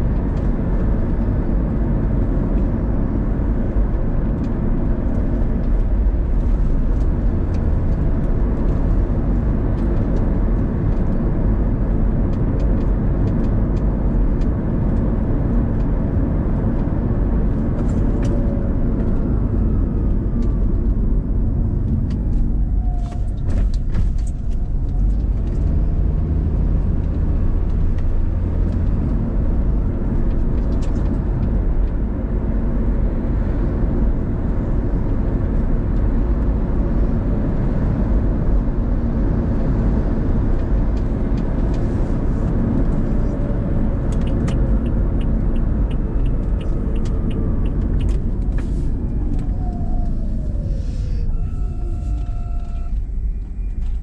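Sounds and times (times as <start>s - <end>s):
car engine rumble: 0.0s - 54.0s
tyre road noise: 0.0s - 54.0s.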